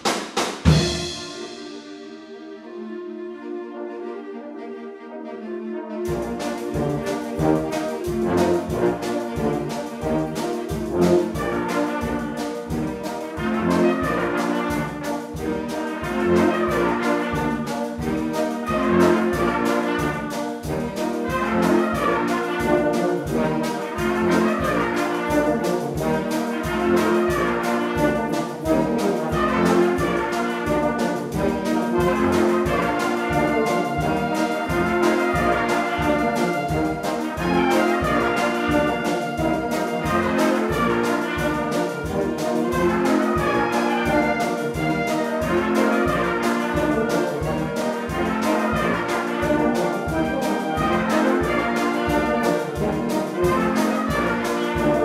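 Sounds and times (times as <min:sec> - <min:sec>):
drum kit beat: 0:00.0 - 0:02.0, 0:06.2 - 0:55.0
brass band playing: 0:00.0 - 0:55.0.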